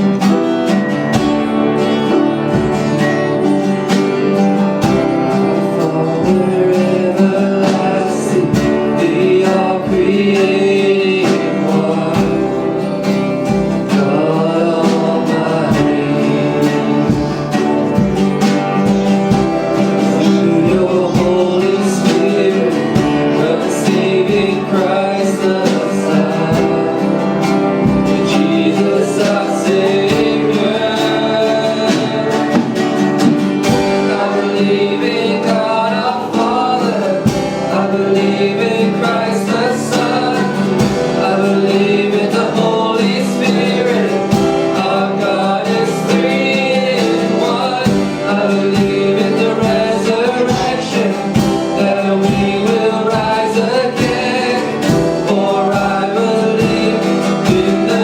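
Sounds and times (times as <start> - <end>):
worship music led by guitar: 0.0 - 58.0.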